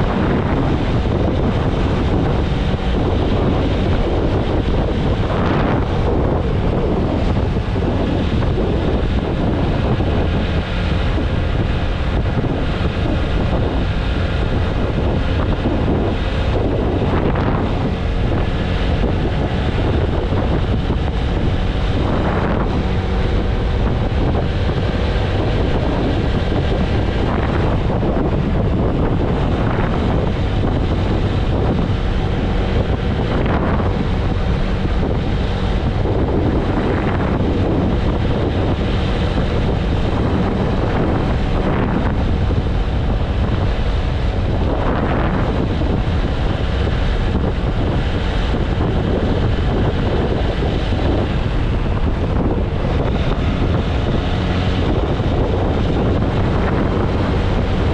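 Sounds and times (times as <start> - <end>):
motorcycle engine hum: 0.0 - 57.9
wind rushing over microphone: 0.0 - 57.9.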